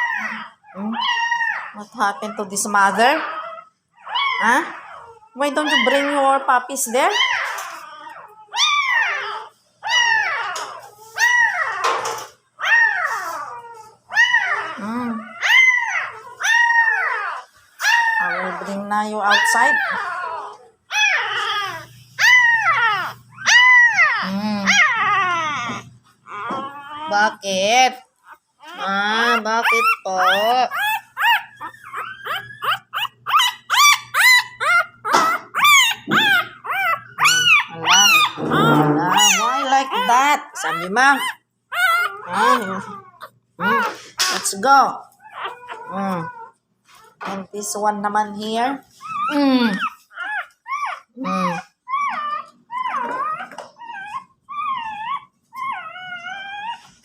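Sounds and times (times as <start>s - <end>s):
puppy crying: 0.0s - 47.7s, 48.5s - 57.0s.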